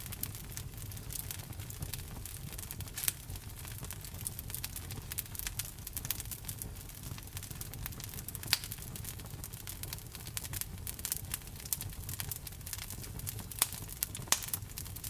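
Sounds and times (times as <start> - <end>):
logs crackling and popping: 0.0 - 15.0
low rumble of flame: 0.0 - 15.0.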